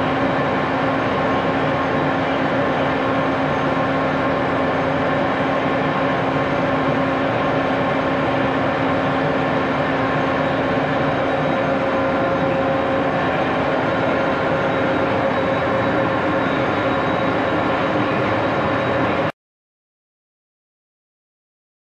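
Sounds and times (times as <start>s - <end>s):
lathe running: 0.0s - 19.3s.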